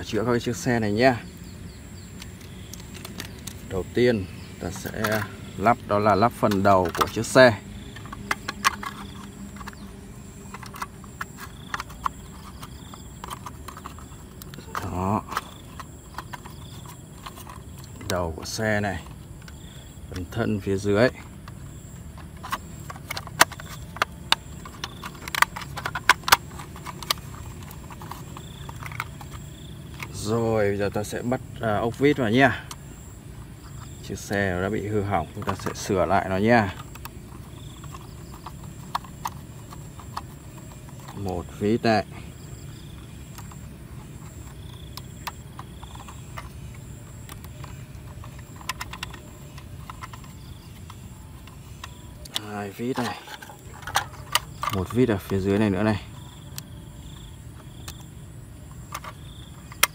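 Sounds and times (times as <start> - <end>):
hard plastic toy clicks: 4.6 - 20.3, 21.0 - 30.2, 33.8 - 59.9.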